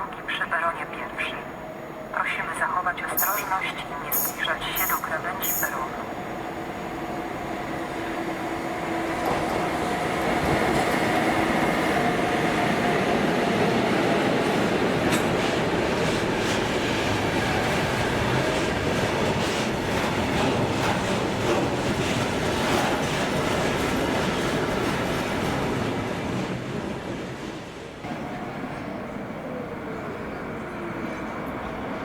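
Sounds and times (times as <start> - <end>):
train whine: 0.0 - 32.0.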